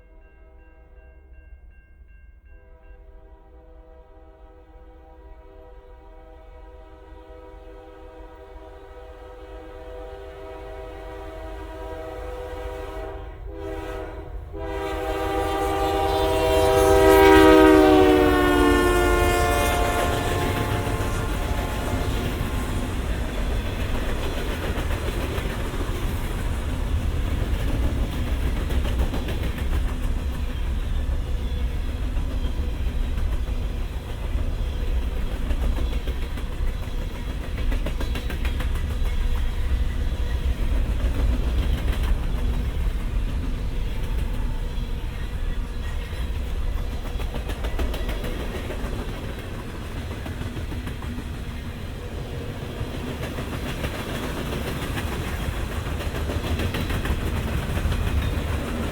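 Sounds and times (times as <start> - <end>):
freight train rumbling on rails: 0.0 - 58.9.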